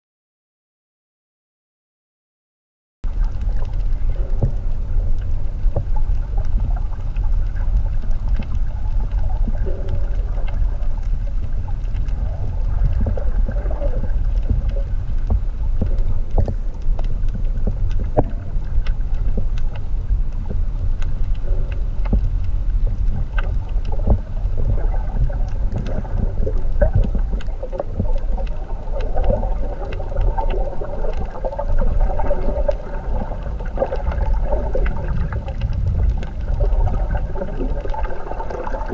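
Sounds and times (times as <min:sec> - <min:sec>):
small underwater clicks: 0:03.0 - 0:38.9
underwater low rumble: 0:03.0 - 0:38.9.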